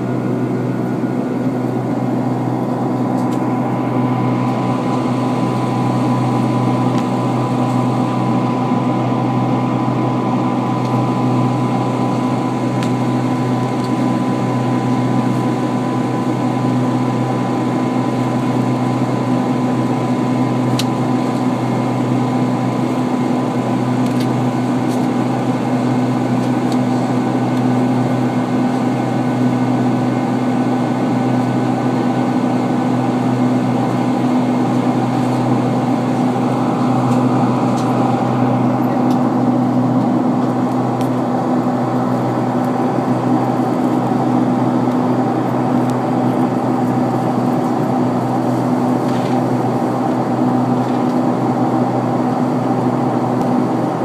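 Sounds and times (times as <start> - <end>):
airplane cabin drone: 0.0 - 54.0
thin steady whine: 0.0 - 54.0.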